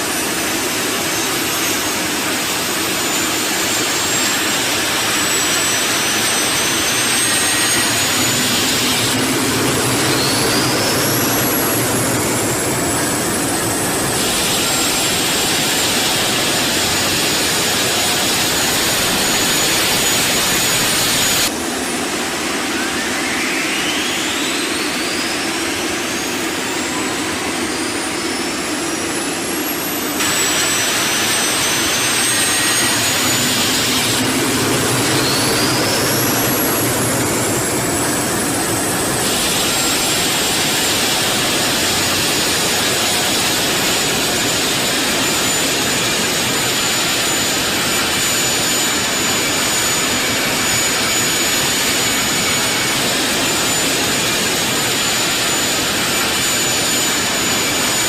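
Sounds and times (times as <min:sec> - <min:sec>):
rushing engine noise: 0:00.0 - 0:58.0
turbine engine whine: 0:00.0 - 0:58.0.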